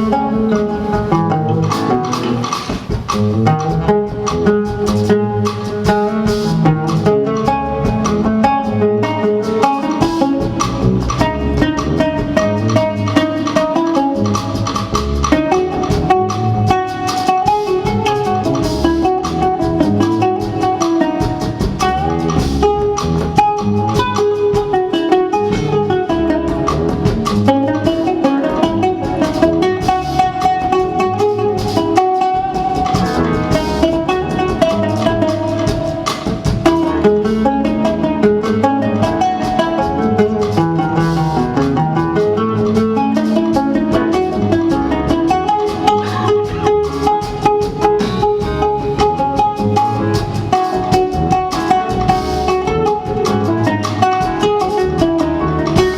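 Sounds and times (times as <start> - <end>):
plucked string instrument music: 0.0 - 55.9.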